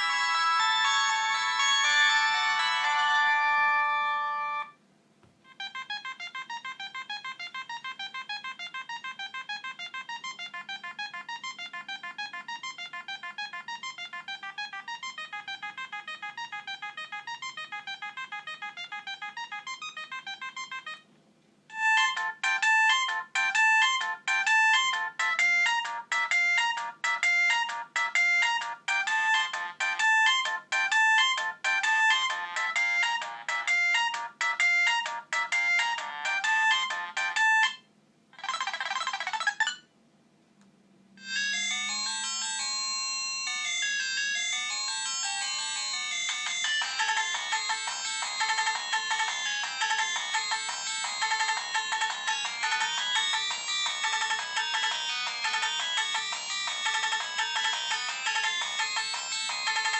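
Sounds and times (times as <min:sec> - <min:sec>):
mobile phone ringtones: 0:00.0 - 0:04.7, 0:05.5 - 0:21.0, 0:21.7 - 0:37.8, 0:38.4 - 0:39.8, 0:41.2 - 0:59.9.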